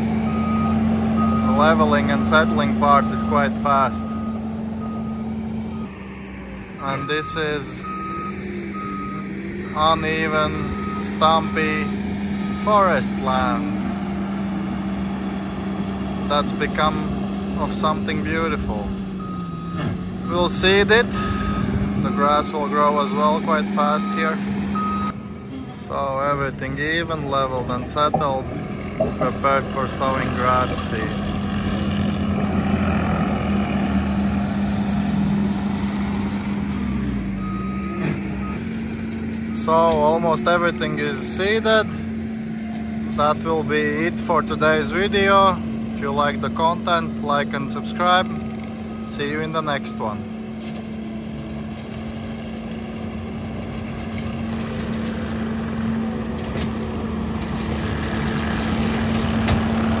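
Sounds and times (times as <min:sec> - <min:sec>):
loader engine droning: 0:00.0 - 1:00.0.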